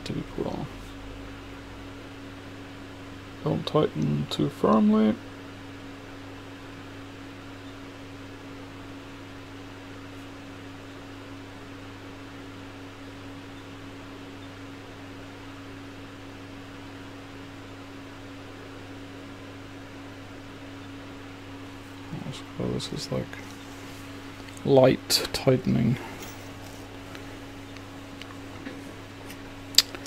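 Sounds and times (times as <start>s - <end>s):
machine hum with steady hiss: 0.0s - 30.0s.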